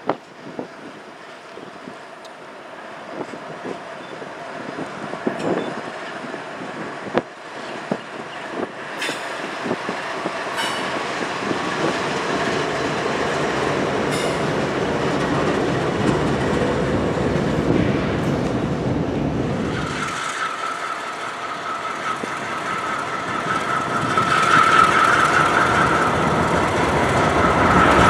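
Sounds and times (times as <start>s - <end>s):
wheels clicking over rail joints: 0.0s - 18.6s, 19.7s - 28.0s
diesel locomotive engine rumble: 0.0s - 28.0s.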